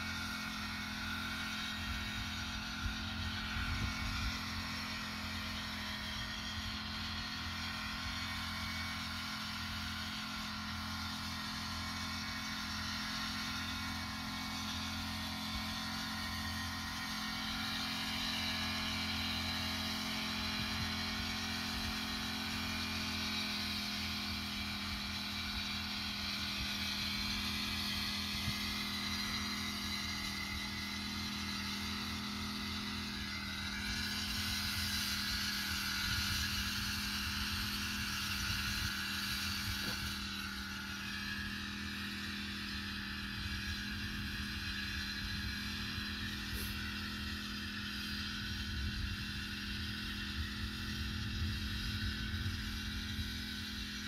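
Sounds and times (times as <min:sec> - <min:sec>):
mist-blower engine running: 0:00.0 - 0:54.0.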